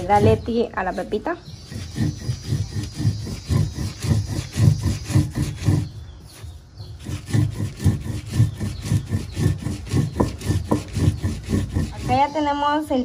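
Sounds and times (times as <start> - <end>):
grinding stone rubbing seeds: 0.0 - 12.9.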